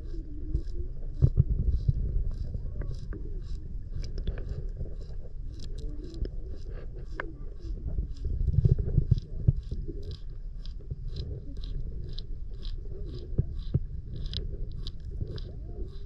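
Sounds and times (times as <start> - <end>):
manatee crunching algae: 0.0 - 16.0.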